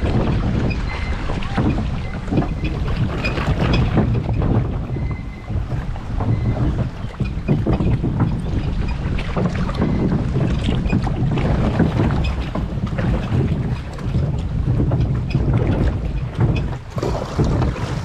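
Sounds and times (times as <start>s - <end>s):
boat knocks: 0.0s - 18.0s
water sloshing and splashing: 0.0s - 18.0s
wind buffeting microphone: 0.0s - 18.0s.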